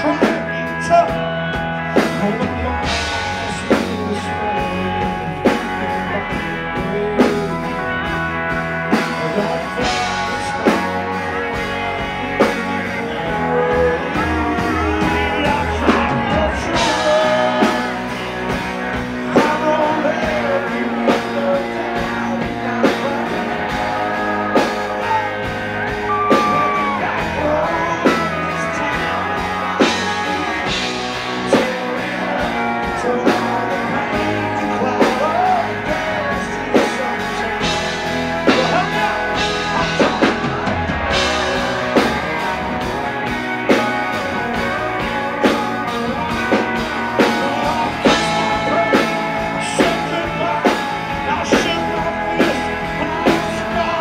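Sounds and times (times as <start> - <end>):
live country band playing: 0.0 - 54.0
man singing: 0.0 - 54.0.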